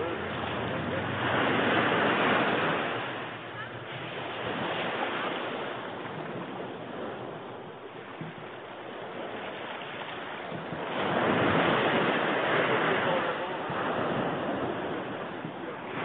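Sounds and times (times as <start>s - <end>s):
waves washing onto sand: 0.0s - 16.0s.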